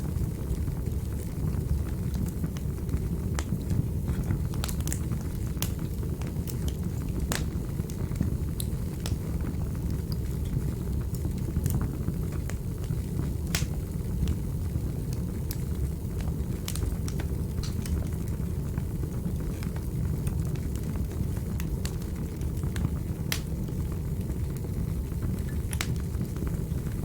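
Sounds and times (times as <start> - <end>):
fire crackling and popping: 0.0 - 27.0
fire flames rumbling: 0.0 - 27.0.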